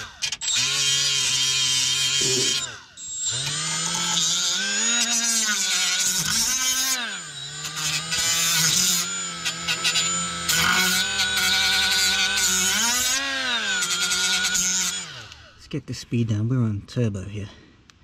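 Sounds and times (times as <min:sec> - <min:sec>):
rotary tool whining: 0:00.0 - 0:15.7.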